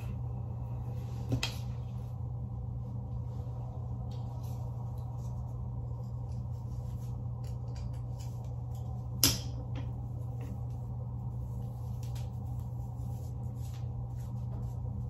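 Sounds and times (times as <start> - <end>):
hair rustling: 0.0 - 15.0
steady low hum: 0.0 - 15.0.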